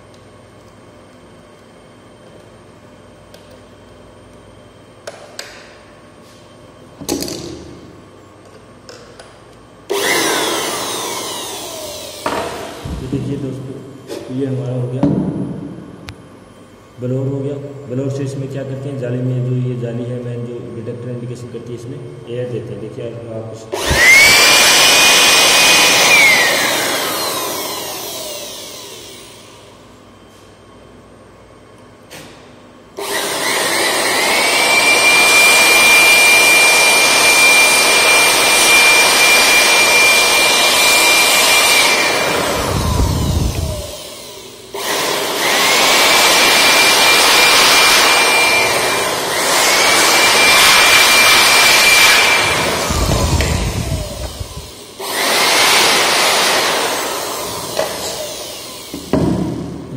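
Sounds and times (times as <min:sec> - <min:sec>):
electric air blower whining: 0:07.0 - 0:20.8, 0:22.2 - 0:30.8, 0:32.1 - 0:59.9.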